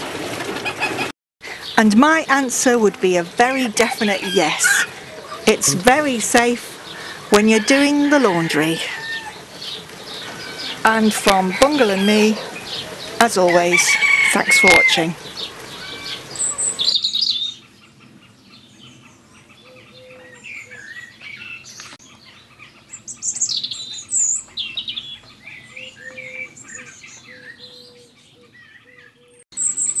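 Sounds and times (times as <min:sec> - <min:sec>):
small birds chirping: 0:01.4 - 0:30.0.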